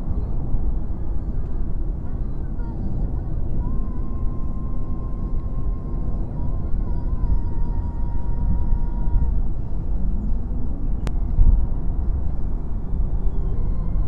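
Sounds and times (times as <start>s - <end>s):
car cabin road and engine noise: 0.0s - 14.0s.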